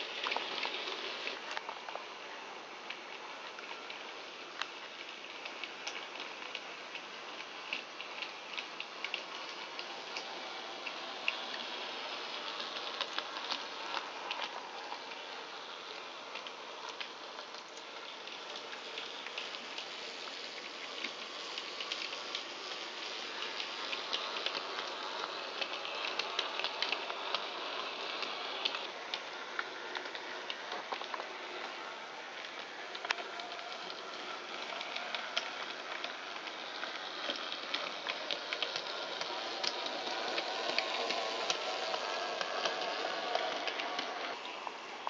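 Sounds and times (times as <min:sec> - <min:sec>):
model train running on track: 0:00.0 - 0:45.0
small clicks: 0:02.8 - 0:45.0.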